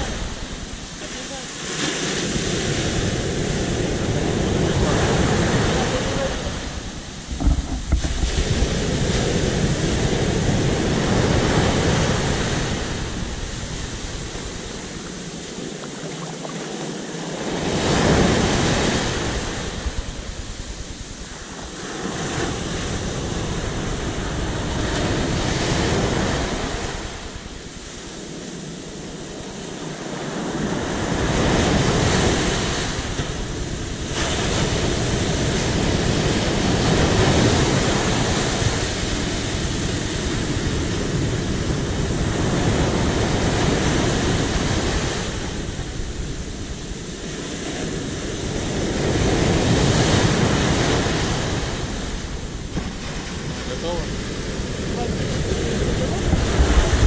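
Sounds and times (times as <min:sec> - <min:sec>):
waves breaking on shore: 0:00.0 - 0:57.0
wind buffeting microphone: 0:00.0 - 0:57.0.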